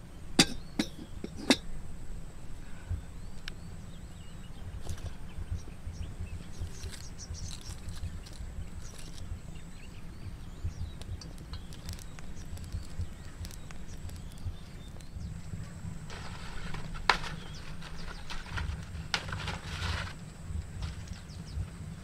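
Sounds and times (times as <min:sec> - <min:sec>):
faint chirps: 0:00.0 - 0:19.0
campfire crackling: 0:00.0 - 0:22.0
low rumble: 0:00.0 - 0:22.0.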